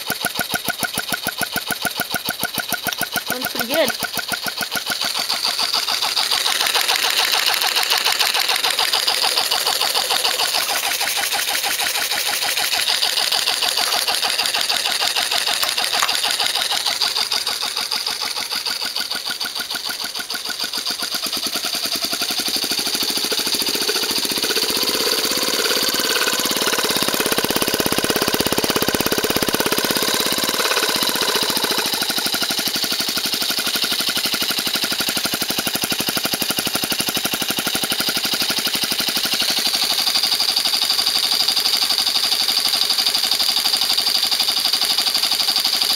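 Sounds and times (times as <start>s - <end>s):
model engine running on compressed air: 0.0s - 45.9s.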